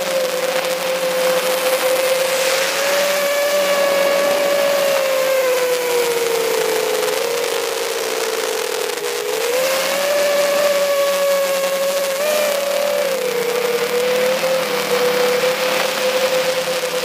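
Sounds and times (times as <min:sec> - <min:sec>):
rushing hiss of air: 0:00.0 - 0:16.4
drone propellers whining: 0:00.0 - 0:17.0.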